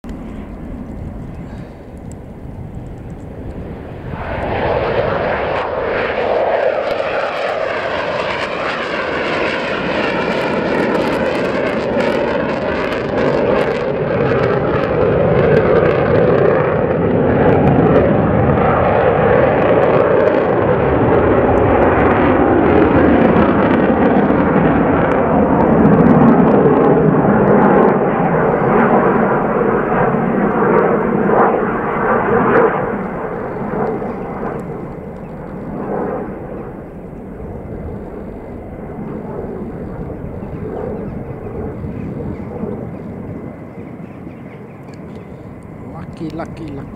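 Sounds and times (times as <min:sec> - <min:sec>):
fighter jet roar flying past: 0:00.1 - 0:46.9.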